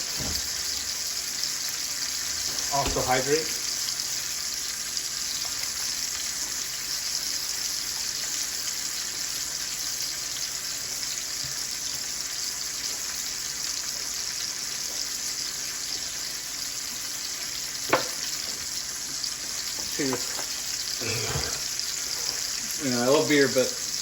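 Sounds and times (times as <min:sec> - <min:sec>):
steak sizzling in frying pan: 0:00.0 - 0:24.0.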